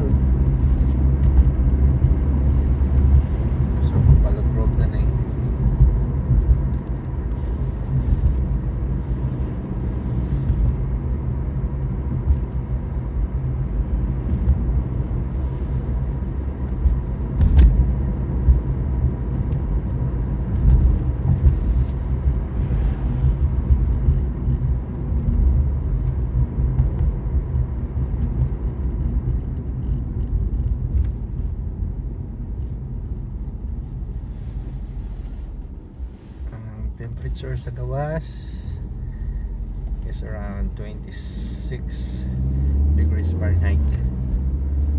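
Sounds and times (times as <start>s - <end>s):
tyre and engine rumble: 0.0s - 44.9s.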